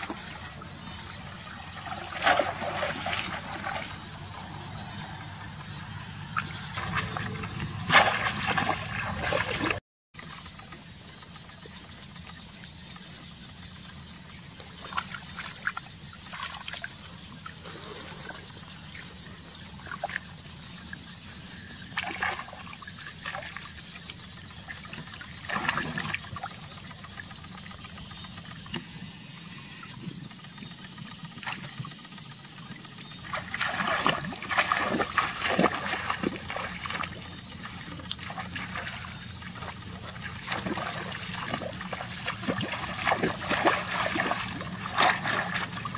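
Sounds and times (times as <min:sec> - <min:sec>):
water splashing and trickling: 0:00.0 - 0:12.6, 0:14.5 - 0:29.0, 0:30.6 - 0:45.9.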